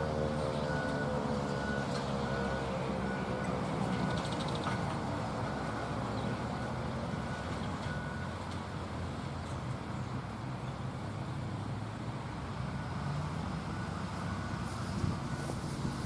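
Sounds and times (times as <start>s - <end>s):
road traffic rumble: 0.0s - 16.0s
vehicles passing by: 0.0s - 16.0s.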